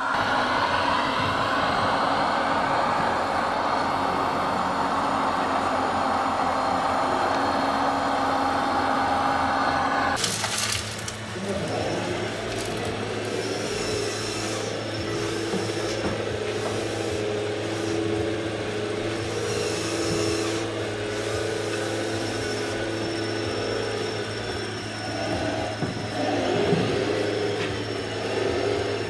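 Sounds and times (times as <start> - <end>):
model excavator motors whining: 0.0 - 29.0.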